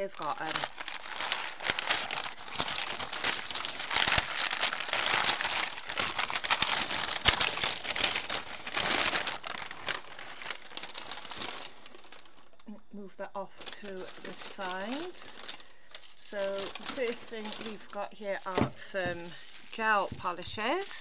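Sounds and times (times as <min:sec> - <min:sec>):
wrapping paper crumpling: 0:00.0 - 0:21.0.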